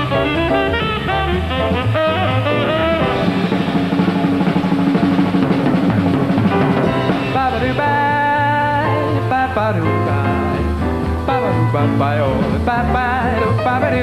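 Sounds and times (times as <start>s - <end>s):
drum solo with snare rolls: 0.0s - 14.0s
swing jazz band: 0.0s - 14.0s.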